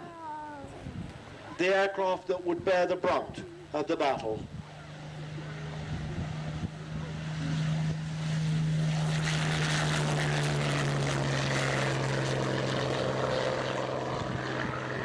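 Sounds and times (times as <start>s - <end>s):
propeller aircraft engine flypast: 0.0s - 15.0s.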